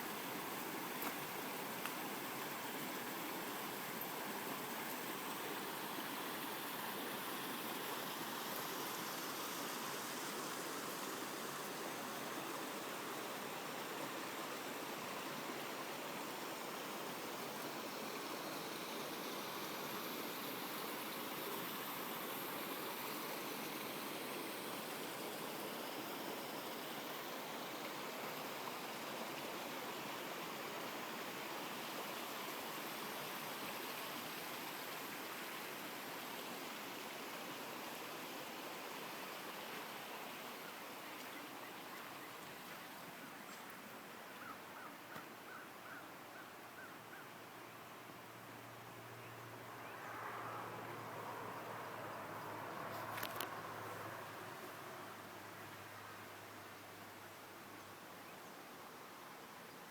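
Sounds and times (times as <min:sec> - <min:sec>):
brook babbling over rocks: 0:00.0 - 0:59.9.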